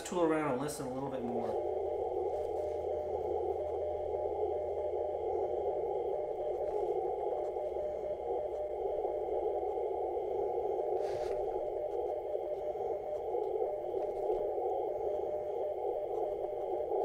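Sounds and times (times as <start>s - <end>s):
radio band noise hiss: 0.0s - 17.0s.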